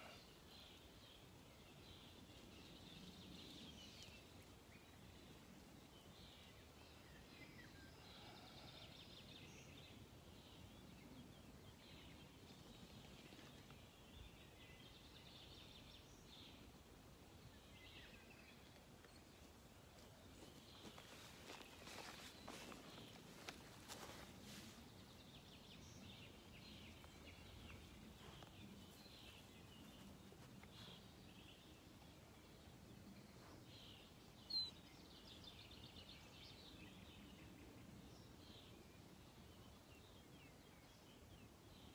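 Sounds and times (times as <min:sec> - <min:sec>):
outdoor background hiss: 0:00.0 - 0:41.9
songbird chirps: 0:00.0 - 0:41.9.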